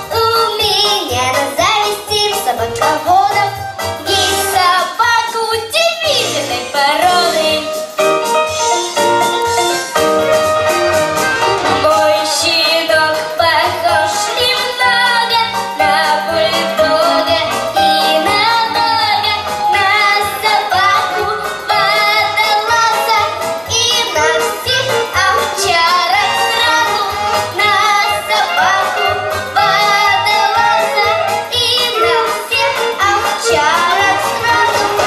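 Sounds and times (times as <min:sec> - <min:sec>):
girl singing into microphone: 0:00.0 - 0:07.7, 0:11.8 - 0:35.0
instrumental music with steady beat: 0:00.0 - 0:35.0.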